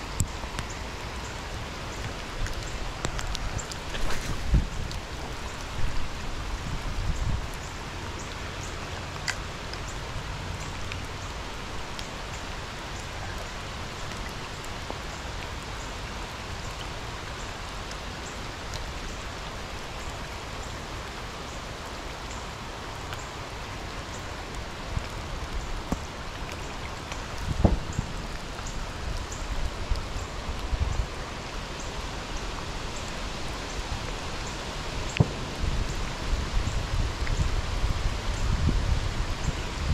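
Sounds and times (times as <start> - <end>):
close raindrops: 0.0 - 39.9
rain falling: 0.0 - 39.9.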